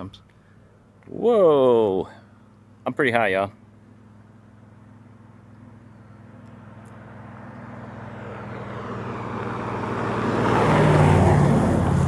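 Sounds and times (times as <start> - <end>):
vehicle engine and tyre noise: 0.0 - 12.0.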